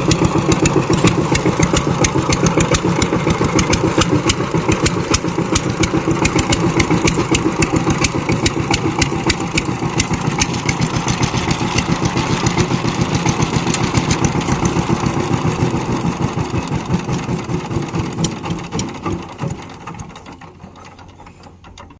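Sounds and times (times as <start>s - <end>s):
power tiller engine running: 0.0s - 21.9s.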